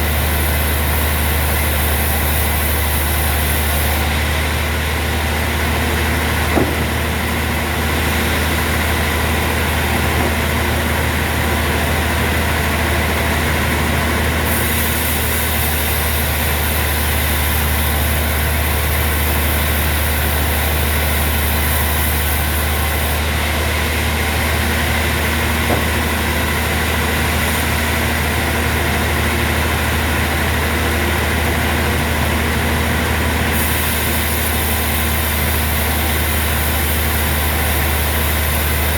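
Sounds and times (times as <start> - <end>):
sawmill machinery engine drone: 0.0 - 38.9.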